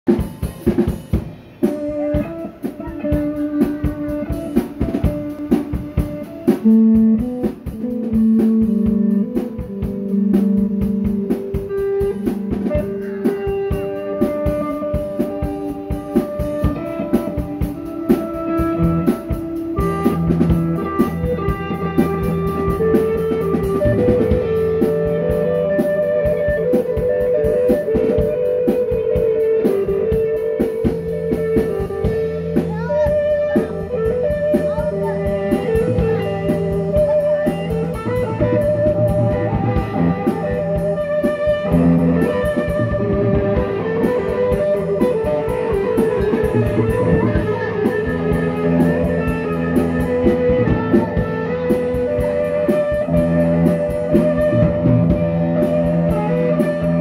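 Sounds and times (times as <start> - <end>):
drum kit steady beat: 0.0 - 57.0
electric guitar with effects: 0.1 - 57.0.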